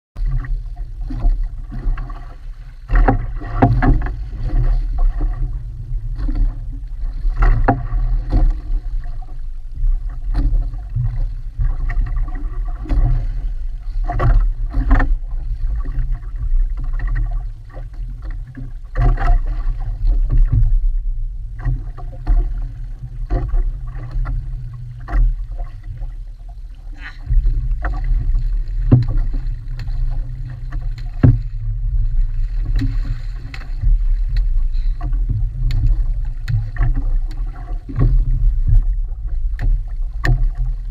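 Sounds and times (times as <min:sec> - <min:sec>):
splashing beside boat: 0:00.2 - 0:40.9
steady low rumble: 0:00.2 - 0:40.9
water slapping against hull: 0:00.2 - 0:40.9.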